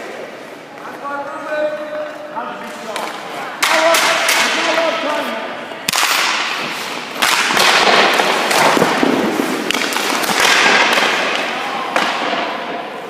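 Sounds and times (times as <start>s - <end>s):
skate blades scraping ice: 0.0s - 13.0s
sticks and pucks clacking: 0.0s - 13.0s.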